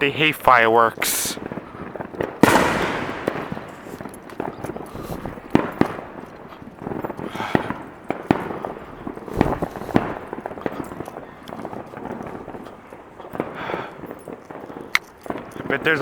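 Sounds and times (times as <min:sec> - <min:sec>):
fireworks and firecrackers banging: 0:00.1 - 0:16.0.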